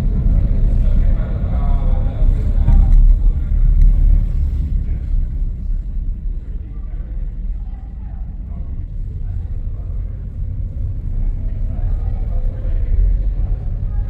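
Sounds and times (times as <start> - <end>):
faint voices: 0.0 - 14.0
ferry low rumble: 0.0 - 14.0.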